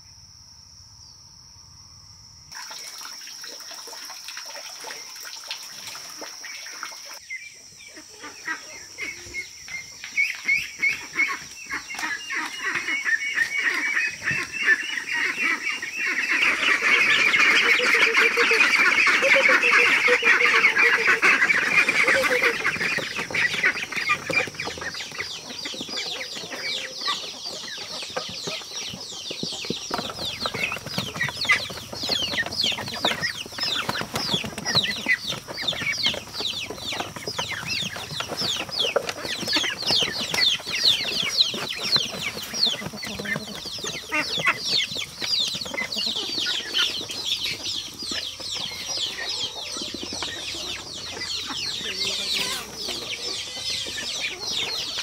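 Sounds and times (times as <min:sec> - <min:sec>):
ducklings peeping: 0:06.1 - 0:55.0.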